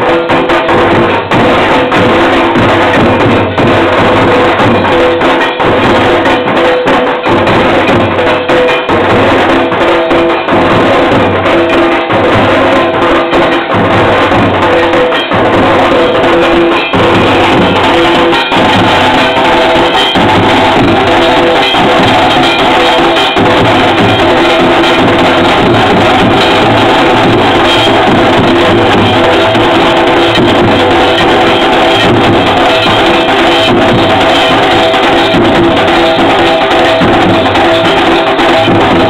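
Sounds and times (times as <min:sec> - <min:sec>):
drums beaten in dense rhythm: 0:00.0 - 0:39.0.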